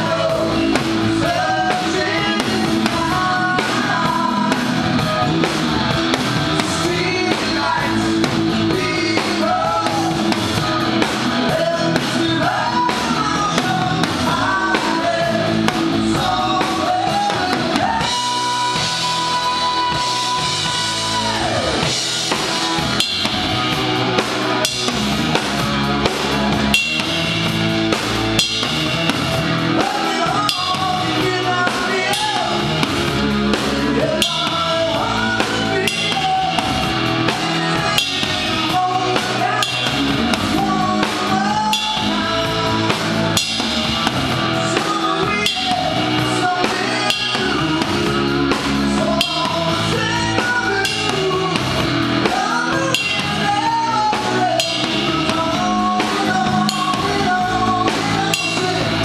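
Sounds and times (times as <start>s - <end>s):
person singing lead: 0.0s - 5.5s, 6.6s - 10.4s, 11.0s - 22.1s, 29.7s - 32.9s, 33.6s - 44.0s, 44.6s - 59.0s
drum kit: 0.0s - 59.0s
electric guitar: 0.0s - 59.0s.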